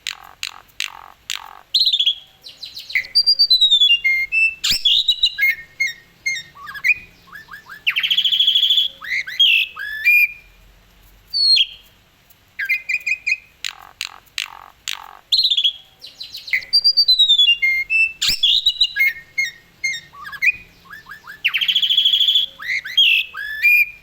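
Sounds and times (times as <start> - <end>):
starling singing: 0.0 - 10.5, 12.6 - 24.0.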